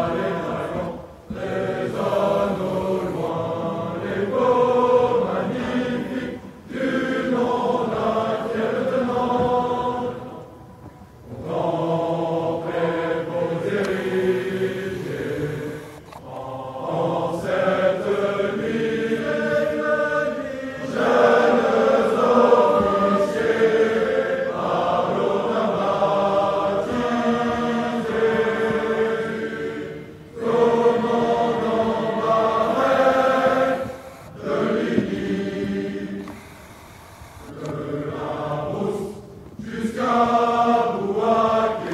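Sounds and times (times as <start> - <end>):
choir singing a cappella: 0.0 - 36.5, 37.5 - 41.9.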